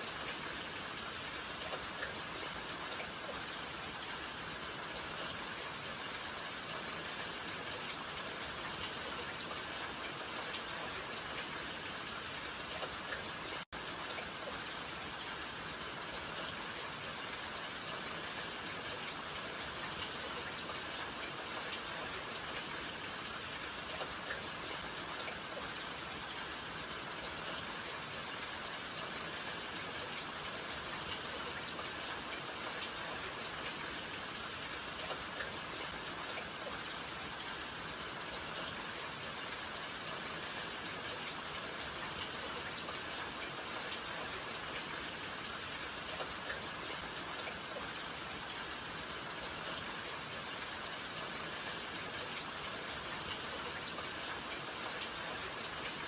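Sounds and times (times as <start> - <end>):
rain hiss: 0.0 - 56.0
raindrops ticking on surfaces: 0.0 - 56.0.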